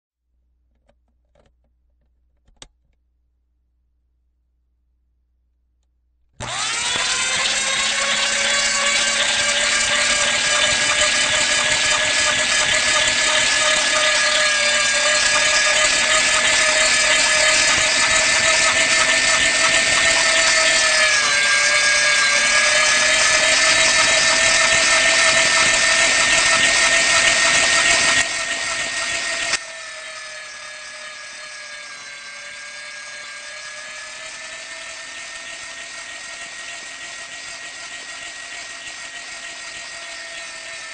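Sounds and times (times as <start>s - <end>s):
meat grinder motor whine: 6.4s - 40.9s.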